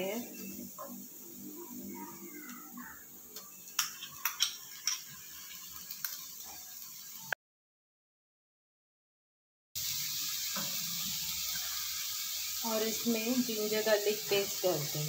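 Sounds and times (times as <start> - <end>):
faint frying hiss: 0.0 - 7.4, 9.8 - 15.0.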